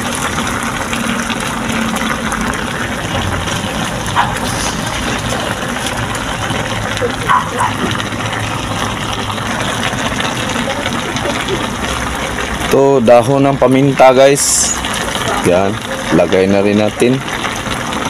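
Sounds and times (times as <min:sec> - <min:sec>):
food bubbling in a wok: 0:00.0 - 0:18.0.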